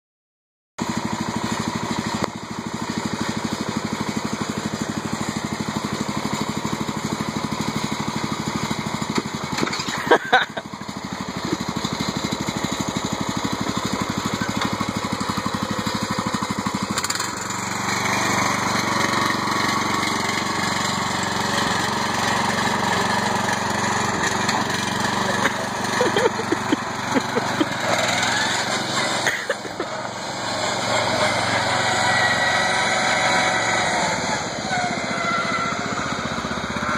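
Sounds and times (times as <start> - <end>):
lawnmower engine running: 0.8 - 36.9.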